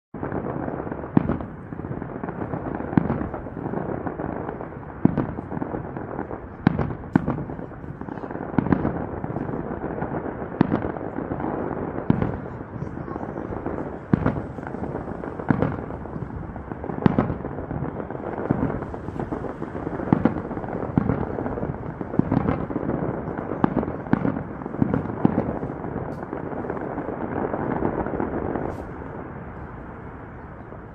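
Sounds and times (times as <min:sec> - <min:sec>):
firework shells bursting: 0:00.2 - 0:29.5.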